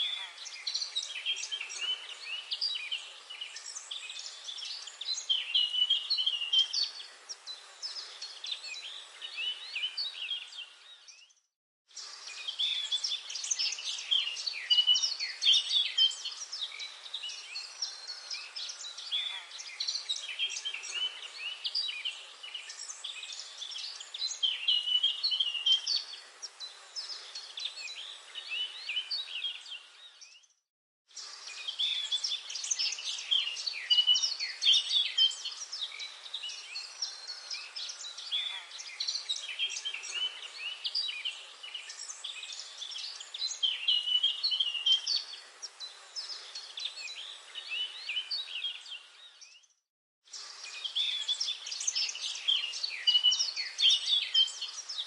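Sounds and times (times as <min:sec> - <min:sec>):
birds chirping and singing: 0:00.0 - 0:11.4, 0:12.0 - 0:30.5, 0:31.2 - 0:49.7, 0:50.3 - 0:55.0.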